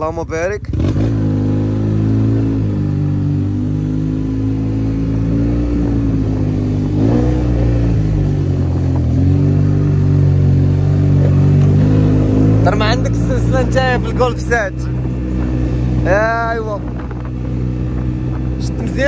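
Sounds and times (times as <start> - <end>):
scooter engine running: 0.6 - 19.0.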